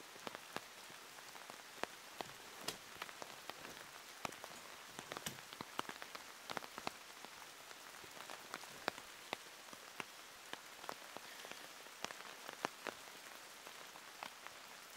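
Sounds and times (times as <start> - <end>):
rain falling: 0.0 - 14.9
raindrops tapping near microphone: 0.0 - 14.9.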